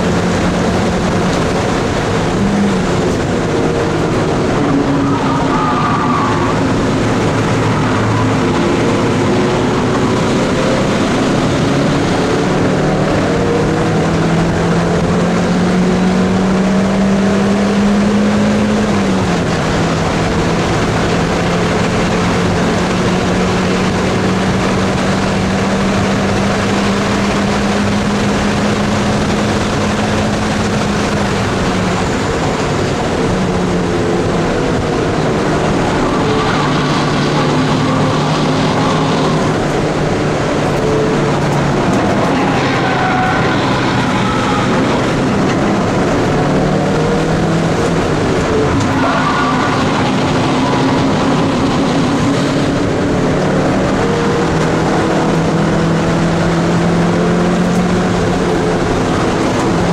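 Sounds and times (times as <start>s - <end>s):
car engine at full throttle: 0.0s - 59.9s
road and wind noise: 0.0s - 59.9s.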